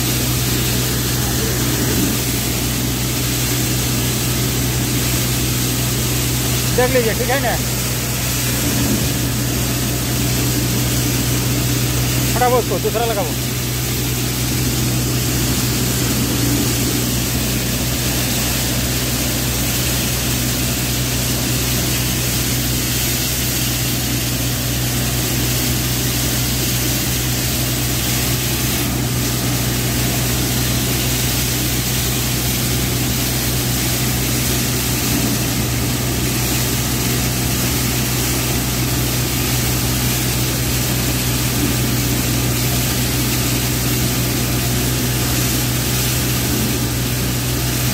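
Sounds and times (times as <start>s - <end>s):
low machine hum: 0.0s - 47.9s
thresher rushing noise: 0.0s - 47.9s.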